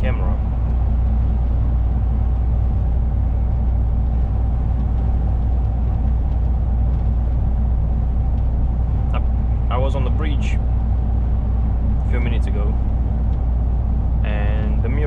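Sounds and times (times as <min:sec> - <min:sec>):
lorry engine drone: 0:00.0 - 0:15.0
road noise: 0:00.0 - 0:15.0.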